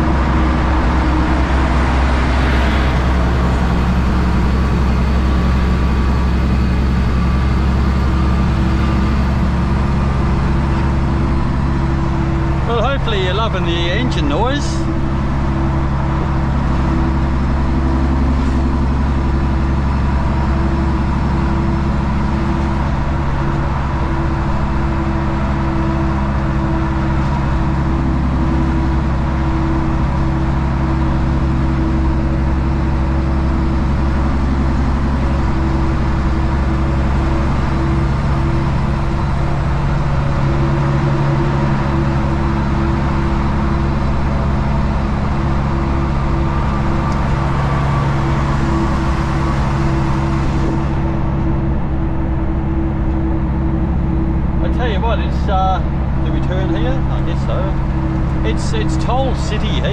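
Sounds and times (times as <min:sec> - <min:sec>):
truck diesel engine cruising: 0:00.0 - 0:59.9.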